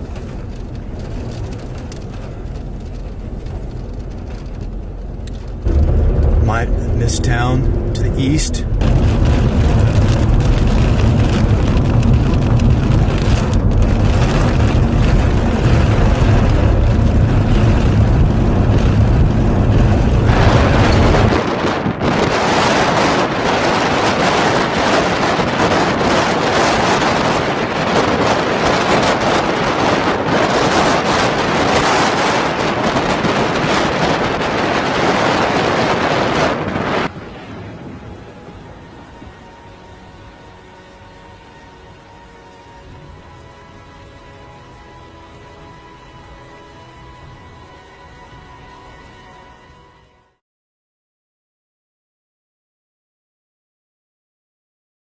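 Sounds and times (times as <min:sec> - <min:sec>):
wind noise in moving car: 0:00.0 - 0:50.3
road noise rumble: 0:00.0 - 0:50.4.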